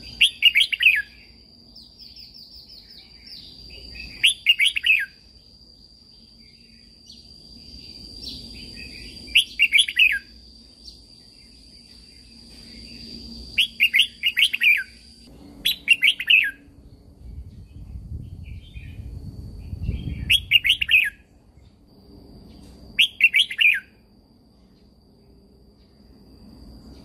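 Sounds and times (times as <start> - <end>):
bird singing bright falling notes: 0.0 - 5.5, 6.2 - 21.8, 22.4 - 24.0.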